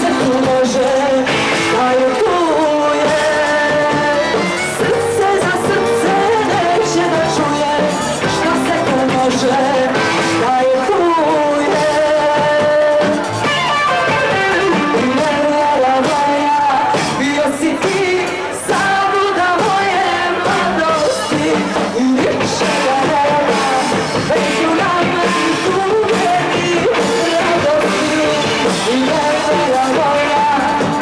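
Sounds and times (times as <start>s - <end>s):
woman singing into a microphone: 0.0s - 13.2s, 14.6s - 31.0s
band playing: 0.0s - 31.0s
electric guitar: 0.0s - 31.0s.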